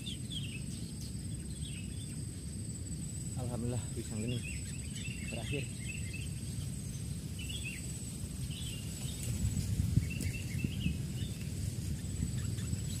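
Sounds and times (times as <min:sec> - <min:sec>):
high-pitched insect whine: 0:00.0 - 0:13.0.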